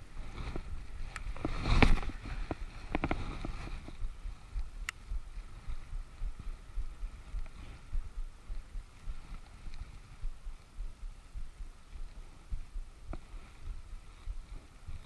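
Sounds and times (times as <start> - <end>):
rustling: 0.0 - 15.0
wind buffeting microphone: 0.0 - 15.0.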